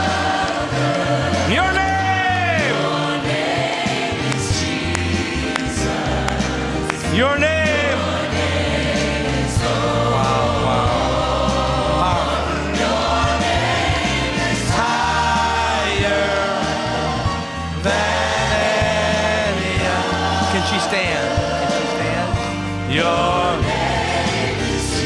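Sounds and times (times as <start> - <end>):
band playing: 0.0 - 25.0
choir singing gospel: 0.0 - 25.0
steady bass line: 0.0 - 25.0.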